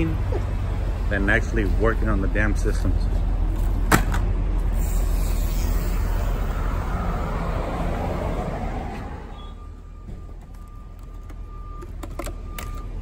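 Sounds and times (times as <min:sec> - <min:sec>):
car road and engine rumble: 0:00.0 - 0:13.0
traffic noise: 0:00.0 - 0:13.0.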